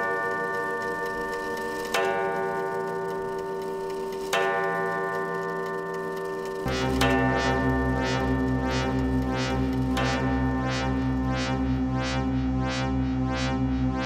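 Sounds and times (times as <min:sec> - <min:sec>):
droning chord of ringing tones: 0:00.0 - 0:14.0.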